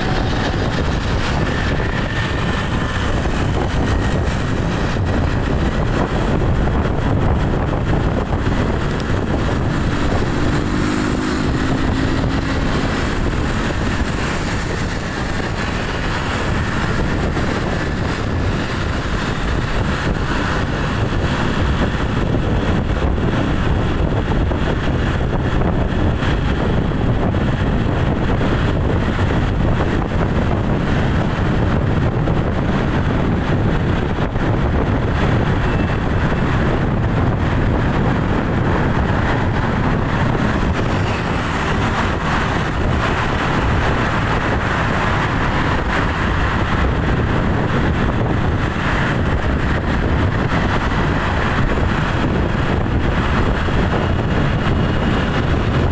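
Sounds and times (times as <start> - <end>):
vehicle road noise: 0.0 - 55.9
wind rushing over microphone: 0.0 - 55.9.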